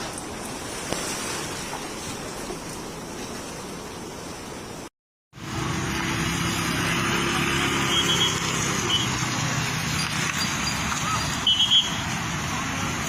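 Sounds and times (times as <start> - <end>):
rushing flood water: 0.0 - 13.0.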